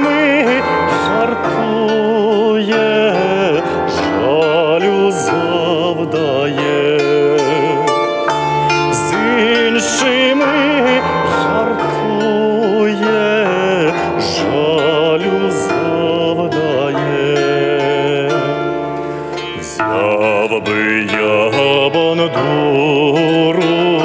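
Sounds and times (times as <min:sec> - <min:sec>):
person singing with vibrato: 0:00.0 - 0:24.0
plucked strings: 0:00.0 - 0:24.0.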